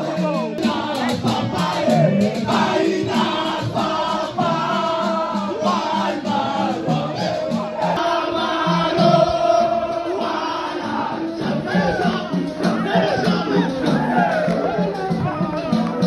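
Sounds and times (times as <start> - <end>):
men singing in chorus: 0.0 - 16.0.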